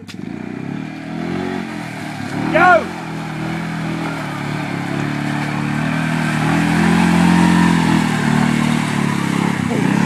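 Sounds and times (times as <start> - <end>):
atv engine running under load: 0.0 - 10.0.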